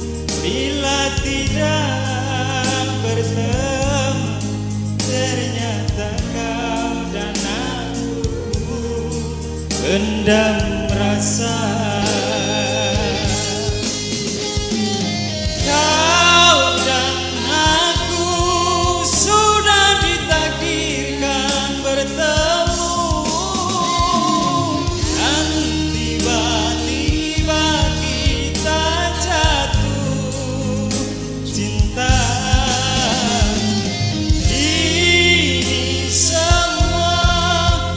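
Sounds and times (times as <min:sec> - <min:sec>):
amplified instrumental backing: 0:00.0 - 0:37.9
man singing love song: 0:00.0 - 0:37.9.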